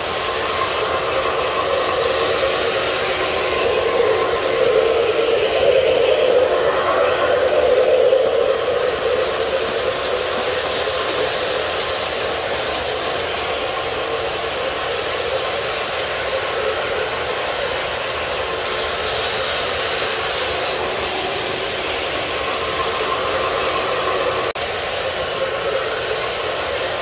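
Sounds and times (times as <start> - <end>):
metal wheels clattering on track: 0.0 - 27.0
model train motors whirring: 0.0 - 27.0.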